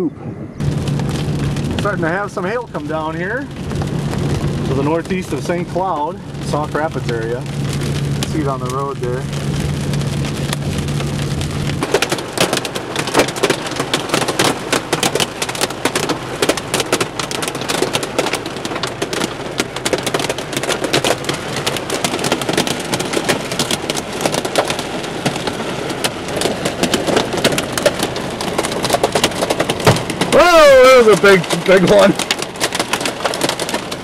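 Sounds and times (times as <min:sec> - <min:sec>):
hail rattling: 0:00.6 - 0:34.0
rain: 0:00.6 - 0:34.0.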